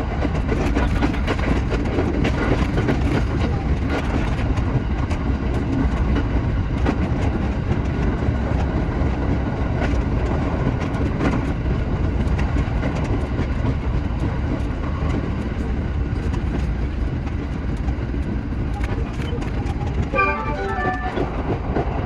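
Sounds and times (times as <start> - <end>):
wheels clicking on track: 0.0 - 21.1
train rumbling: 0.0 - 22.0.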